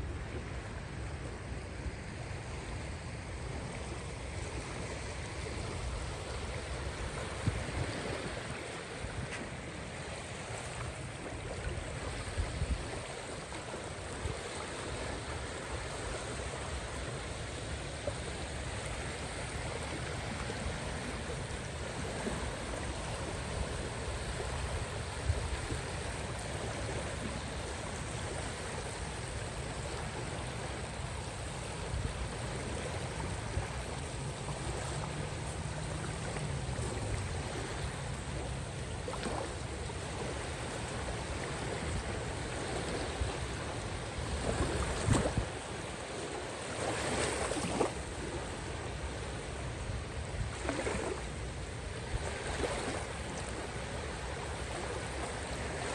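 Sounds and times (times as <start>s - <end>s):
waves washing on shore: 0.0s - 55.9s.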